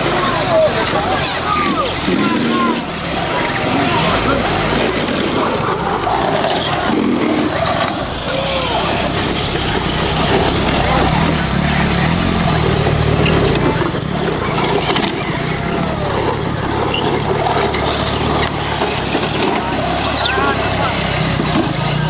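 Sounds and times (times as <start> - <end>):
electric toy trucks running: 0.0 - 22.0
spectators' voices: 0.0 - 22.0.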